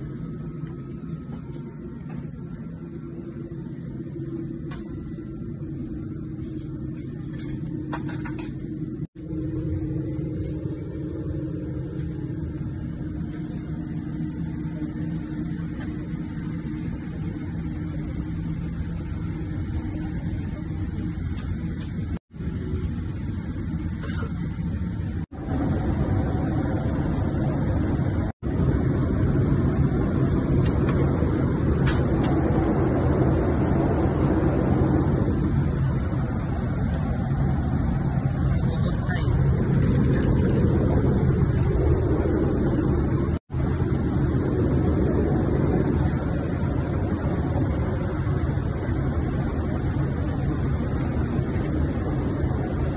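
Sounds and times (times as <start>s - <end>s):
airliner cabin hum: 0.0s - 52.9s.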